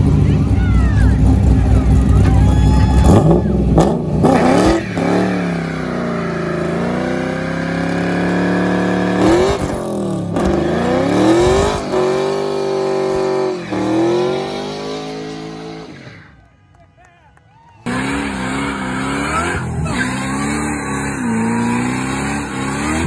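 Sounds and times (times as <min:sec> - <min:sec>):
car engine revving: 0:00.0 - 0:16.4, 0:17.8 - 0:23.0.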